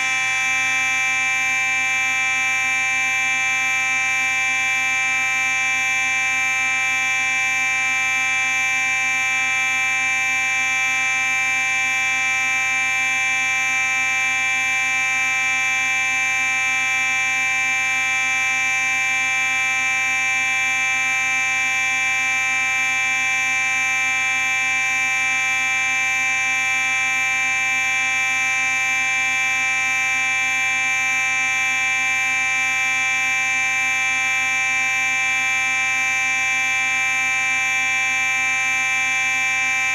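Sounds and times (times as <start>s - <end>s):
fire alarm steady tone: 0.0s - 39.9s.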